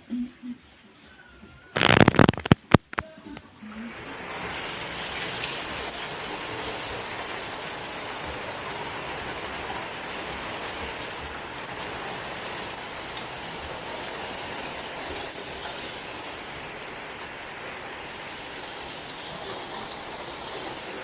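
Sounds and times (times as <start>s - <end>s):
steady rain falling: 0.2s - 21.0s.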